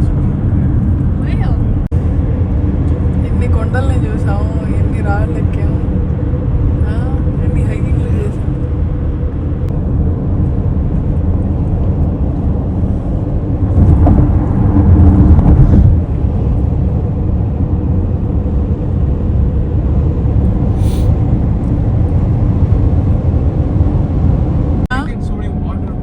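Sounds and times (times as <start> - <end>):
car road noise rumble: 0.0 - 26.0.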